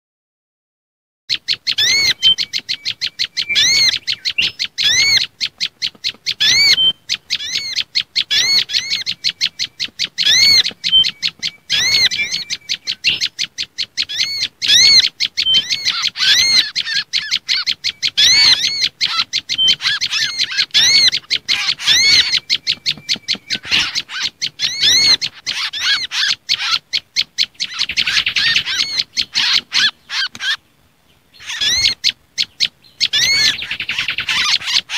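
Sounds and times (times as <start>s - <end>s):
small songbirds chirping: 1.3s - 34.9s
sunbird calls: 1.3s - 34.9s
whistler bird calls: 1.4s - 5.3s, 6.3s - 30.6s, 31.3s - 34.9s.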